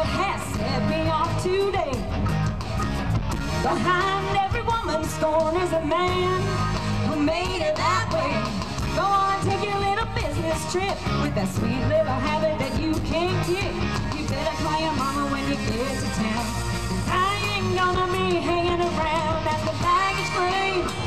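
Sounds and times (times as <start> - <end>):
drums and guitar: 0.0 - 21.0
rock song with sung vocals: 0.0 - 21.0.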